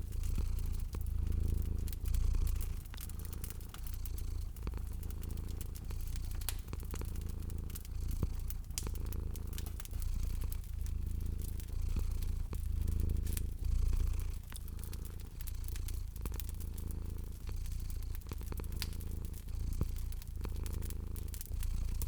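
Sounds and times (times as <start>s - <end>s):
cat purring: 0.0s - 22.0s
wood fire crackling and popping: 0.0s - 22.0s.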